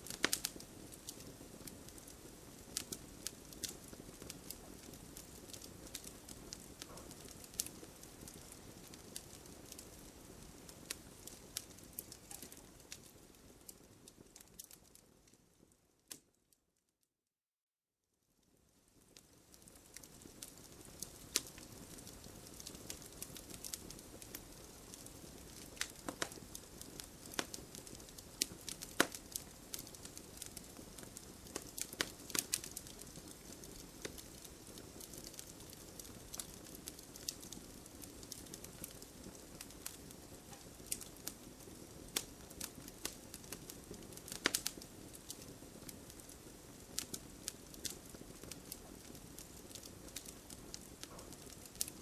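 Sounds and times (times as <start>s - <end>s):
fire pops and snaps: 0.0s - 15.4s, 18.9s - 52.0s
fire low hiss: 0.0s - 16.3s, 18.6s - 52.0s.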